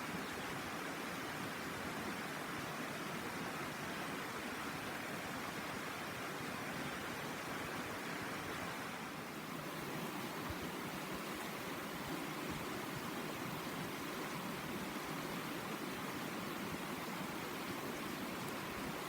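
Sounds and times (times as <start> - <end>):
river flowing over stones: 0.0 - 19.0.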